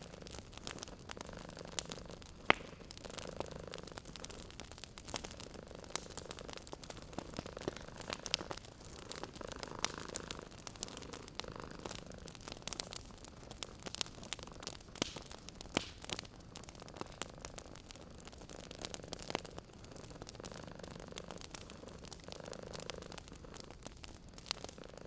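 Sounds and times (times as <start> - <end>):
cat purring: 0.0 - 25.0
wood fire crackling and popping: 0.0 - 25.0.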